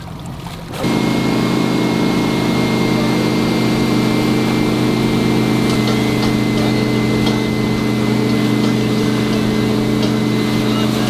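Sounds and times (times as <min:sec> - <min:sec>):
boat engine droning: 0:00.1 - 0:11.0.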